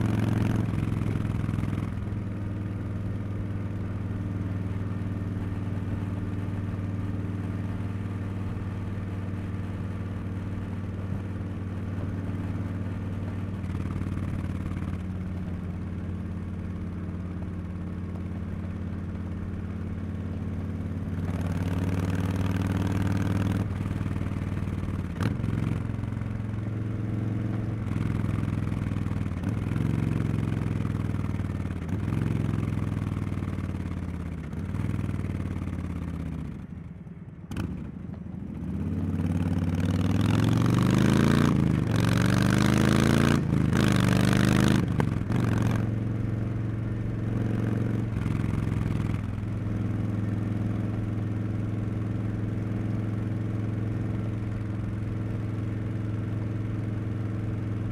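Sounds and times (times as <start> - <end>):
motorcycle engine while riding: 0.0 - 57.9.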